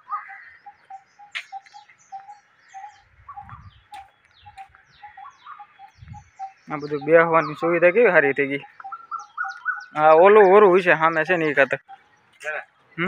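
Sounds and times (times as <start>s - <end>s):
high falling bird chirps: 0.0s - 13.0s.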